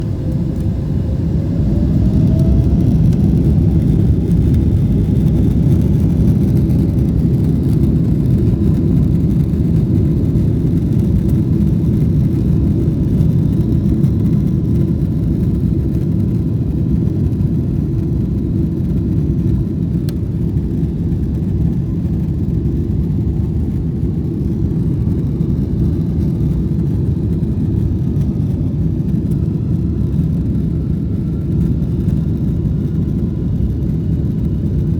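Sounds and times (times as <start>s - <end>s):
jet engines rumbling at takeoff: 0.0s - 34.9s.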